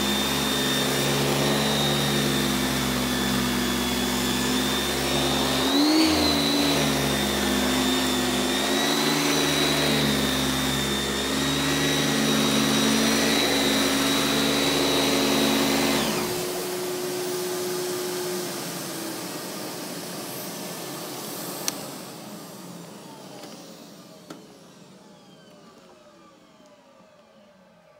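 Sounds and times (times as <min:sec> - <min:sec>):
vacuum cleaner motor whine: 0:00.0 - 0:27.9.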